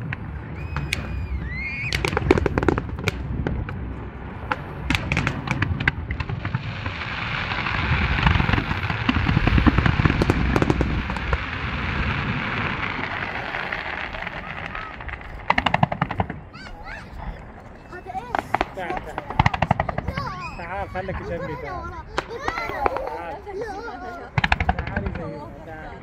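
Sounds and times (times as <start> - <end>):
fireworks hissing with pops: 0.0 - 3.8, 4.4 - 16.8, 18.2 - 25.4
low rumble: 0.0 - 22.4
firework bangs and crackles: 0.0 - 26.0.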